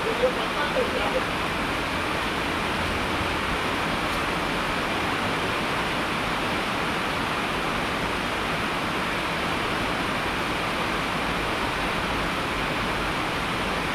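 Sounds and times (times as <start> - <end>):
heavy rain: 0.0 - 13.9.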